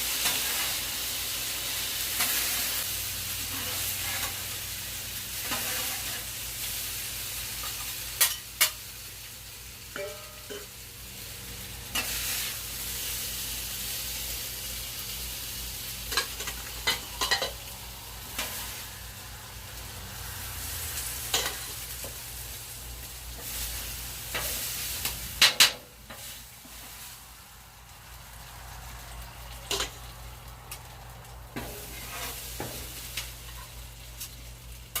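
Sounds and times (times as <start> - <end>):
chicken sizzling in a frying pan: 0.0 - 35.0.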